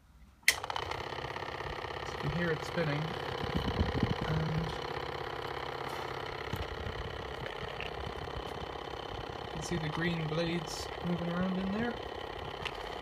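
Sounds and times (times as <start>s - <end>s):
electric pump motor hum: 0.5s - 13.0s.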